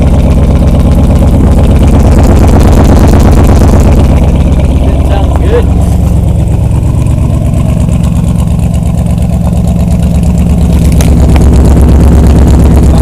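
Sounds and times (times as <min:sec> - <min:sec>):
v eight engine idling: 0:00.0 - 0:13.0.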